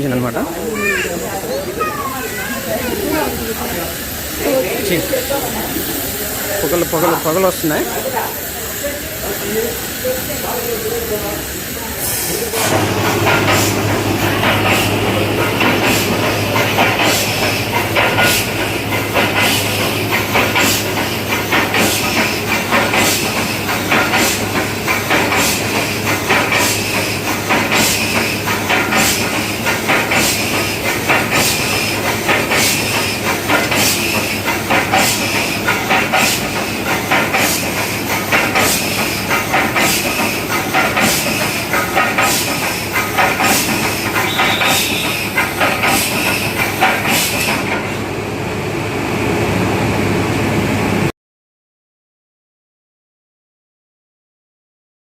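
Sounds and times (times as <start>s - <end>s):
steady steam hiss: 0.0s - 48.1s
steam toy train clicking: 0.3s - 48.0s.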